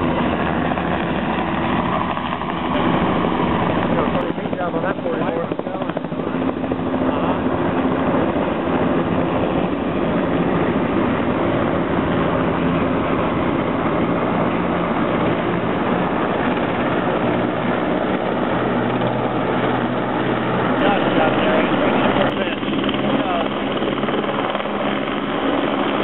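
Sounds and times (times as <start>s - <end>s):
helicopter rotor and turbine: 0.0s - 26.0s.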